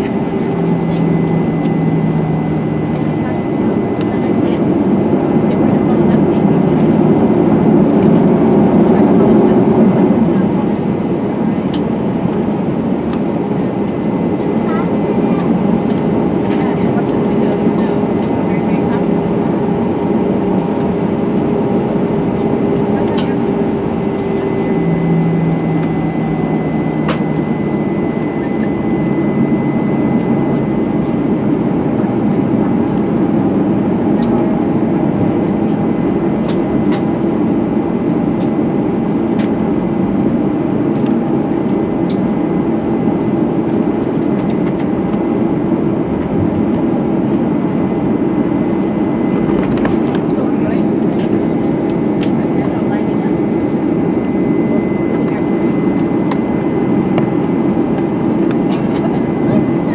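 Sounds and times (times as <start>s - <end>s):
jet engines humming: 0.0s - 59.9s.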